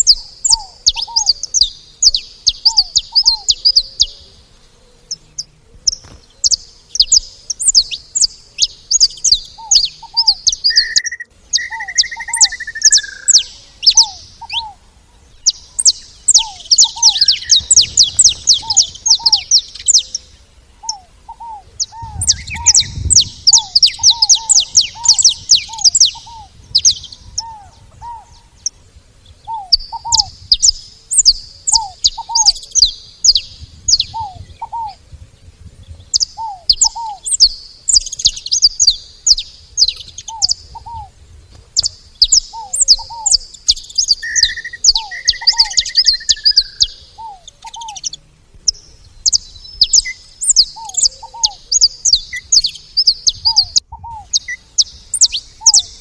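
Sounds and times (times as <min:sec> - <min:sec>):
finches chirping: 0:00.0 - 0:35.0, 0:35.8 - 0:56.0.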